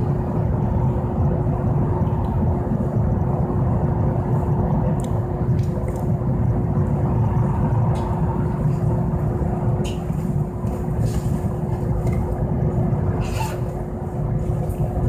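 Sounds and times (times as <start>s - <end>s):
cars passing outside: 0.0s - 15.0s
tram interior rumble and hum: 0.0s - 15.0s.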